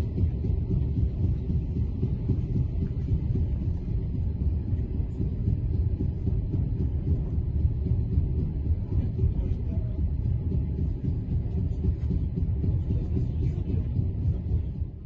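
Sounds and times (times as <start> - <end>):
train rumble from on board: 0.0 - 15.0.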